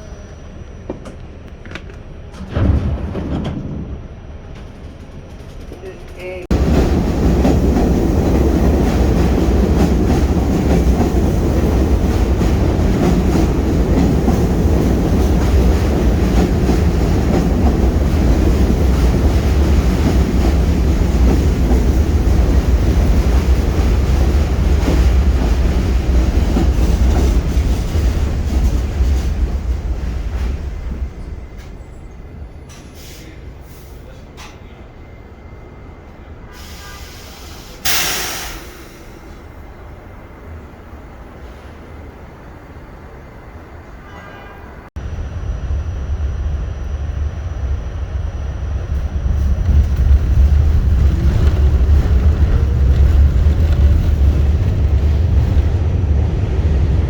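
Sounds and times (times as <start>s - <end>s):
subway train rumbling on tracks: 0.0s - 57.0s.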